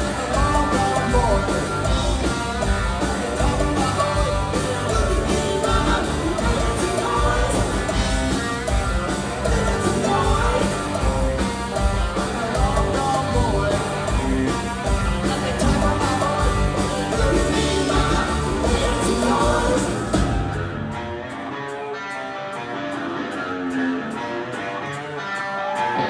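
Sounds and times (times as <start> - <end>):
loud rock music with electric guitar: 0.0 - 26.0.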